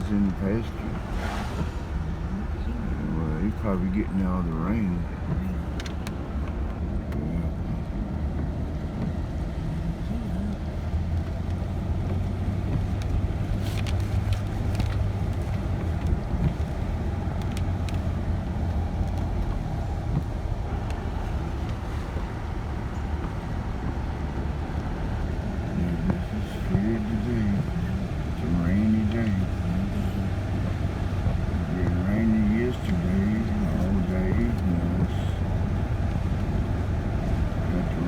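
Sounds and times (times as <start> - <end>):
car engine and tyre rumble on wet road: 0.0 - 38.0.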